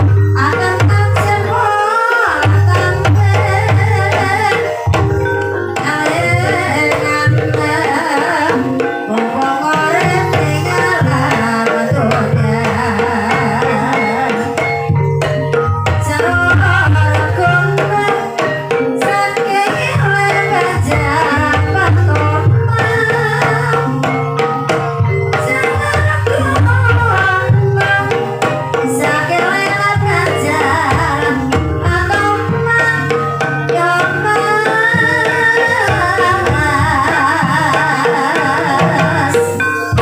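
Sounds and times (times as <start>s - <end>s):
gamelan ensemble playing: 0.0s - 40.0s
hand drum beating: 0.0s - 40.0s.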